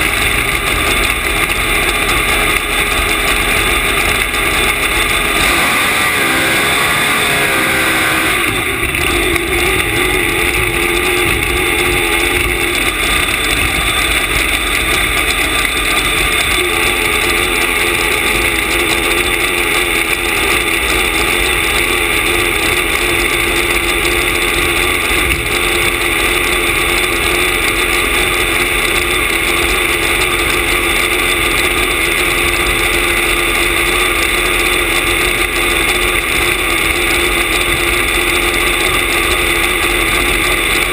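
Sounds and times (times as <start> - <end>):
dragster engine idling loudly: 0.0 - 40.9.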